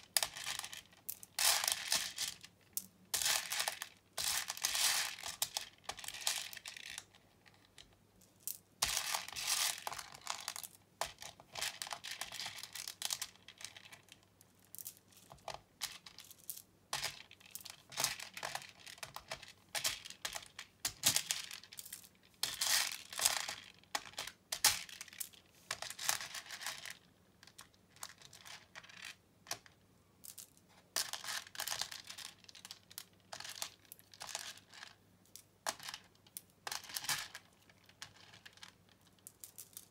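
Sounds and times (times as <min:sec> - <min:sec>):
plastic beads rattling: 0:00.0 - 0:07.1, 0:07.7 - 0:29.2, 0:30.2 - 0:39.9.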